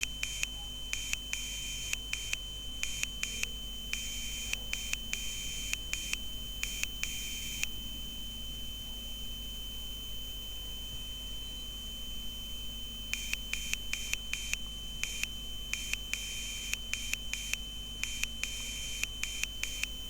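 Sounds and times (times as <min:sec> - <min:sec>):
electronic buzzer beeping morse code: 0:00.2 - 0:07.7, 0:11.2 - 0:20.0.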